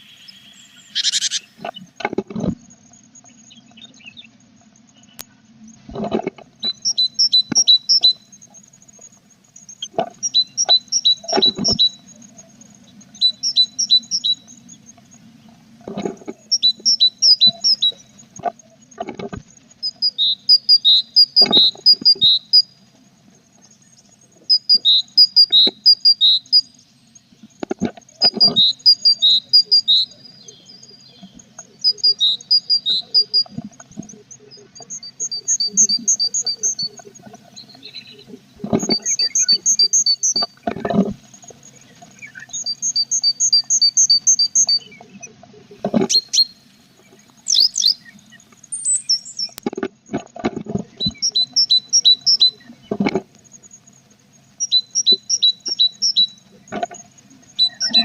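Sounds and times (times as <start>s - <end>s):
nestlings begging chirps: 0.0s - 1.9s, 6.6s - 15.2s, 16.4s - 18.3s, 19.8s - 22.7s, 23.7s - 40.6s, 41.2s - 45.1s, 46.0s - 49.6s, 50.9s - 58.0s.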